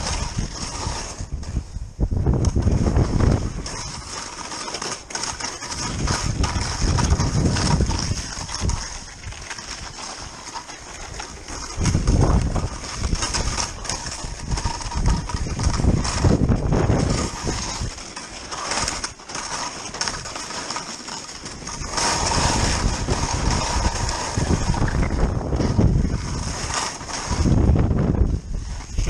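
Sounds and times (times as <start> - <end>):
wind buffeting microphone: 0.0 - 4.2, 5.3 - 19.2, 21.5 - 29.0
skis scraping over icy snow: 0.0 - 29.0.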